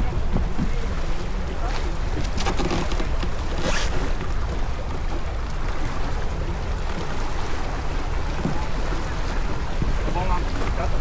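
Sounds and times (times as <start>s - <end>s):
water rushing along boat hull: 0.0s - 11.0s.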